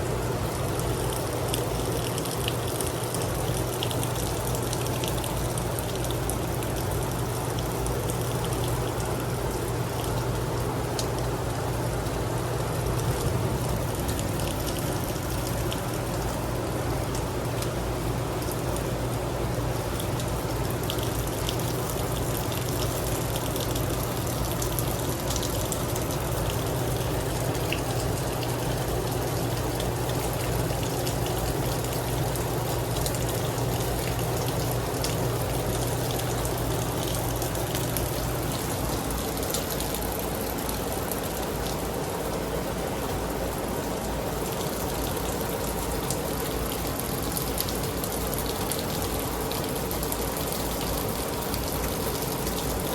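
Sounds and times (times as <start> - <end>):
heavy rain falling: 0.1 - 52.9
raindrops ticking: 0.4 - 52.9.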